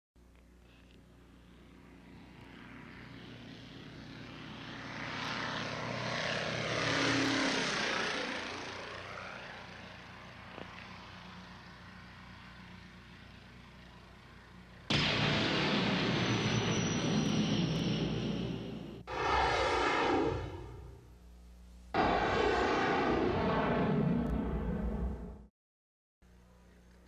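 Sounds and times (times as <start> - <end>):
propeller airplane flying past: 0.4 - 25.5.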